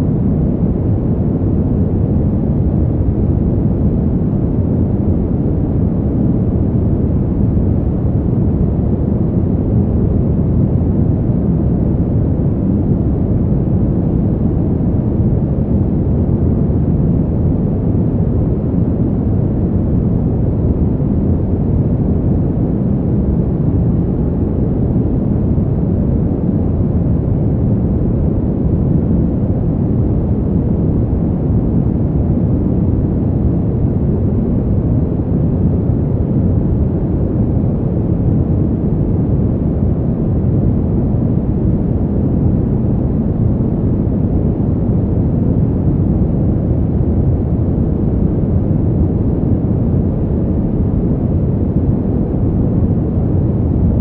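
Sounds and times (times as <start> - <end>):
steady low wind: 0.0 - 54.0.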